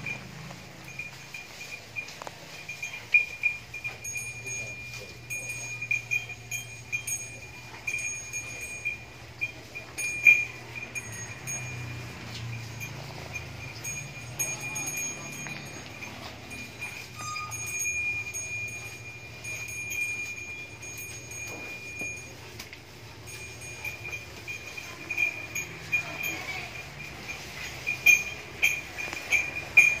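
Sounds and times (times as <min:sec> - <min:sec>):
light metallic chiming: 0:00.0 - 0:30.0.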